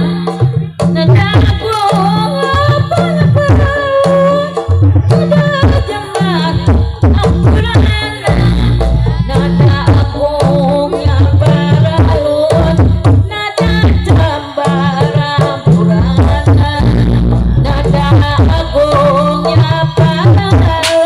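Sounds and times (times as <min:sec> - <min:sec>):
hand drums fast rhythm: 0:00.0 - 0:21.0.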